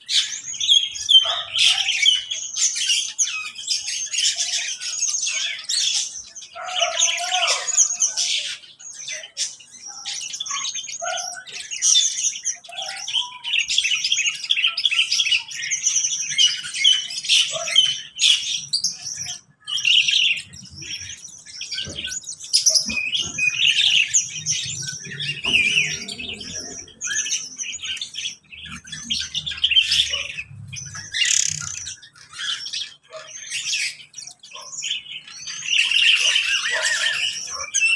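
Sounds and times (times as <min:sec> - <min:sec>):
small birds chirping and chattering: 0:00.0 - 0:37.9.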